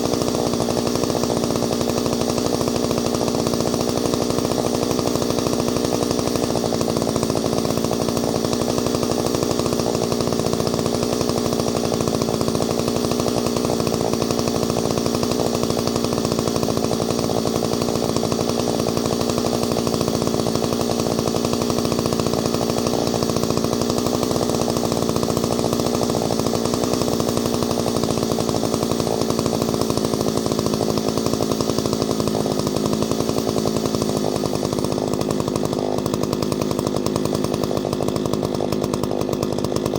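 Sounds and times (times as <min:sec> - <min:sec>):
two-stroke chainsaw running steadily: 0:00.0 - 0:39.9.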